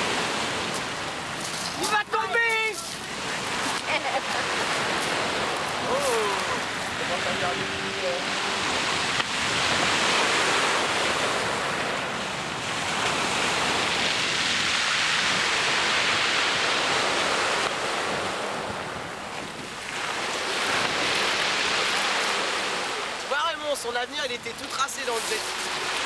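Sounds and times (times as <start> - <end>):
wind buffeting microphone: 0.0 - 23.1
sea surf breaking: 0.0 - 26.0.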